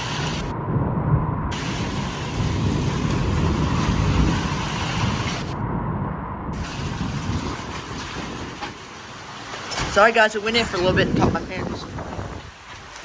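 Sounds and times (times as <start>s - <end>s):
wind buffeting the microphone: 0.0s - 13.0s
wind gusting: 0.0s - 13.0s.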